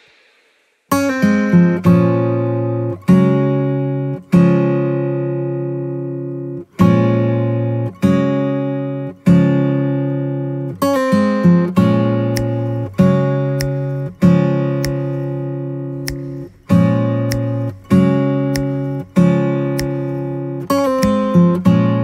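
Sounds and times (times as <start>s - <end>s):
acoustic guitar strumming chords: 0.9s - 22.0s.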